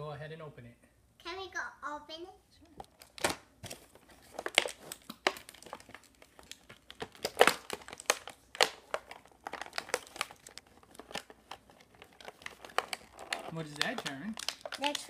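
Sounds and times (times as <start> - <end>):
plastic packaging crinkling: 2.8 - 15.0.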